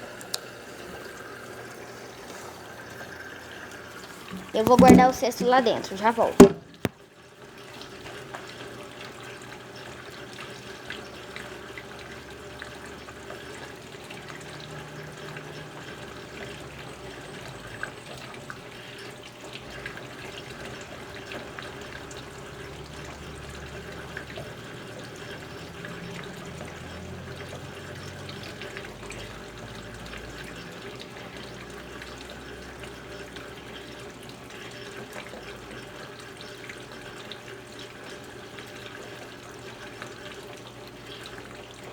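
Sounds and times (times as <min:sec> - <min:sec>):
water rushing into washing machine: 0:00.6 - 0:41.9.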